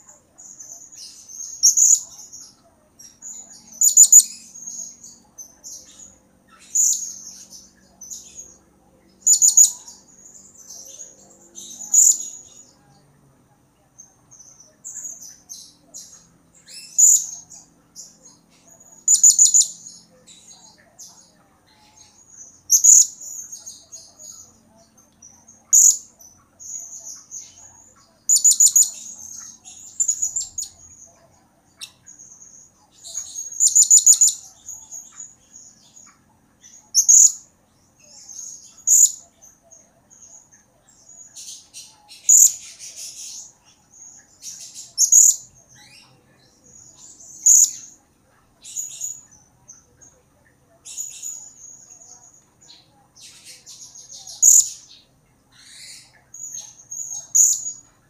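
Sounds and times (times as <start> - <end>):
parrot chirps and trills: 0.0 - 12.9, 14.0 - 58.0.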